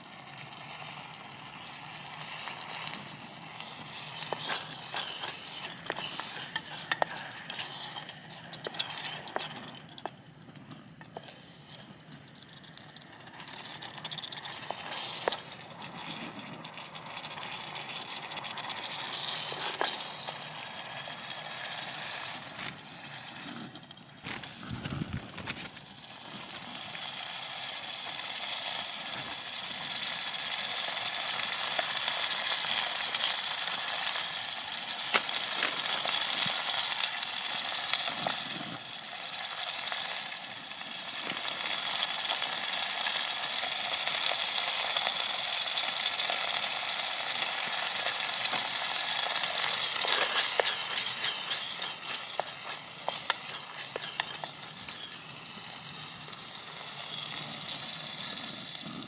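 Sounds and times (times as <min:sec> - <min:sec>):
stew simmering and sizzling: 0:00.0 - 0:59.0.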